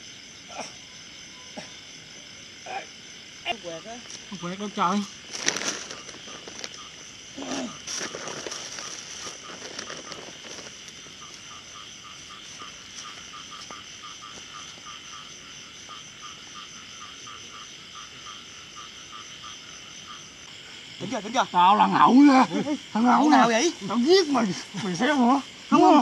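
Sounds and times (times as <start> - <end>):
frogs croaking: 0.0 - 26.0
night insects droning: 0.0 - 26.0.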